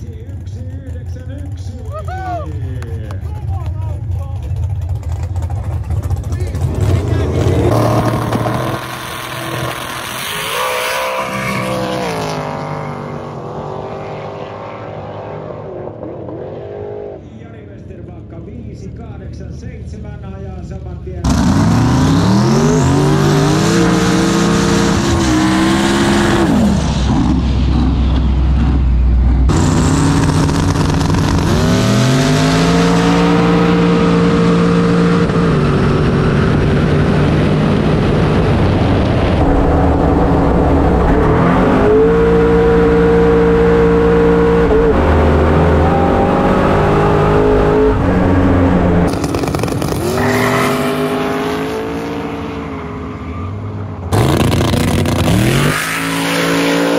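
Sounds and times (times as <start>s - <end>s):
car engine at full throttle: 0.0s - 56.9s.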